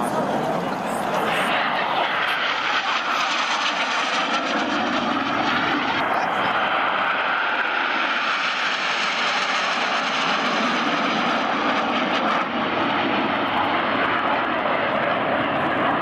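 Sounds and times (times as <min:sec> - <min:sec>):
jet aircraft flying overhead: 0:00.0 - 0:16.0.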